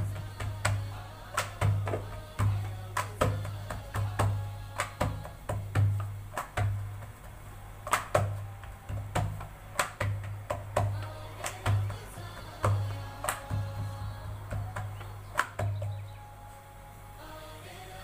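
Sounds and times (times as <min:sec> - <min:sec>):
background music with drum beat: 0:00.0 - 0:16.1.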